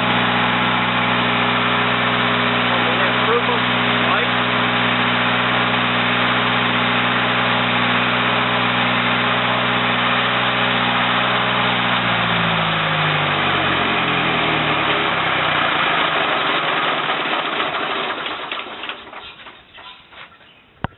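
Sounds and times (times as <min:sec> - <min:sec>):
diesel generator running: 0:00.0 - 0:20.8.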